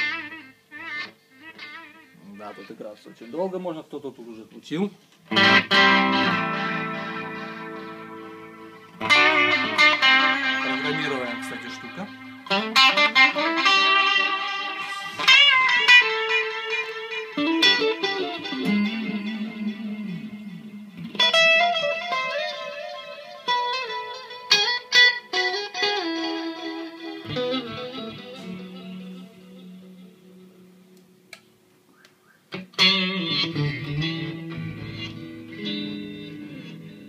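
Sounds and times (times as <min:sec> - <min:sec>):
electric guitar with delay: 0:00.0 - 0:02.2, 0:05.3 - 0:31.3, 0:32.5 - 0:37.0.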